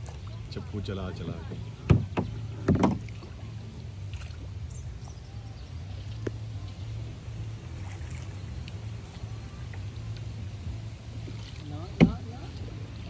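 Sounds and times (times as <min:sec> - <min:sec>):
low steady rumble: 0:00.0 - 0:13.0
water lapping against canoe: 0:00.0 - 0:13.0.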